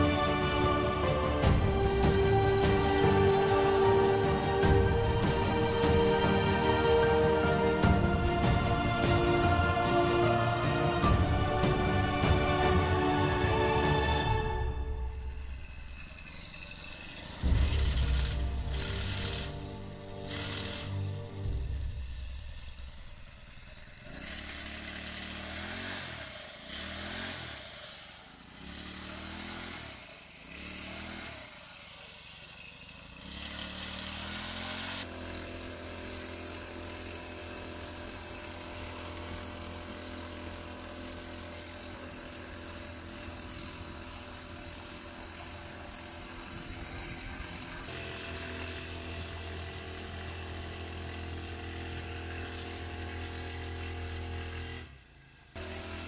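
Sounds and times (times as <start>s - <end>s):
small engine revving: 0.0s - 56.0s.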